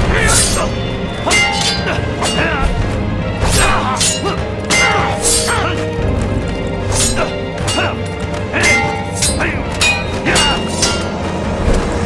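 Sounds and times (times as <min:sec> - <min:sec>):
dramatic background music: 0:00.0 - 0:12.0.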